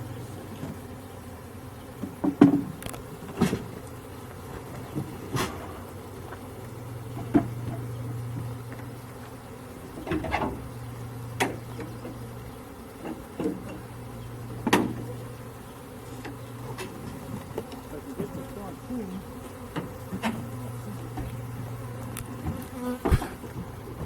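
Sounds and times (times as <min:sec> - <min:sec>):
swarm of bees buzzing: 0:00.0 - 0:24.0.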